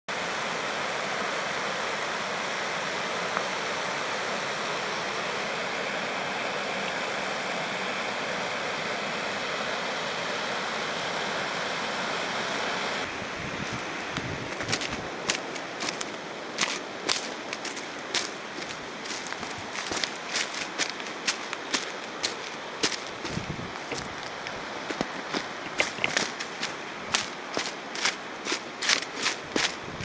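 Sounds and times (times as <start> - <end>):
stream rushing: 0.1 - 30.0.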